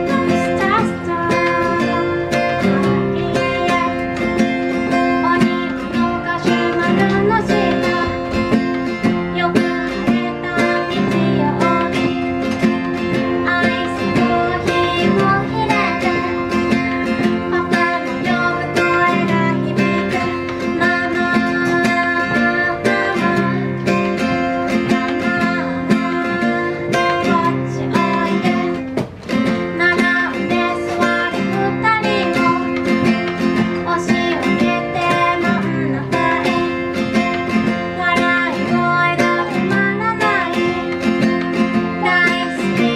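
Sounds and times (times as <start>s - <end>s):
strummed acoustic guitar: 0.0s - 42.9s
woman singing: 0.0s - 42.9s.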